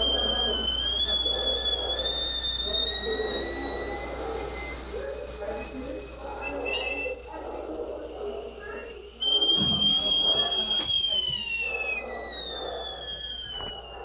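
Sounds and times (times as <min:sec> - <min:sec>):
kettle whistling: 0:00.0 - 0:14.0.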